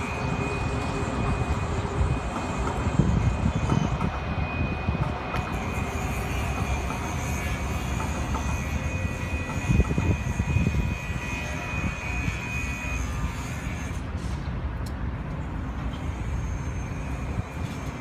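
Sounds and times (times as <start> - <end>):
high train whine: 0.0 - 18.0
train rumbling past: 0.0 - 18.0.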